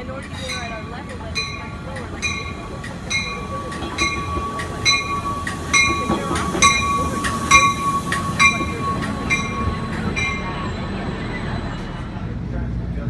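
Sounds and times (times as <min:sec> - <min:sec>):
train bell ringing: 0:00.0 - 0:12.4
train engine and wheels rumbling: 0:00.0 - 0:13.0.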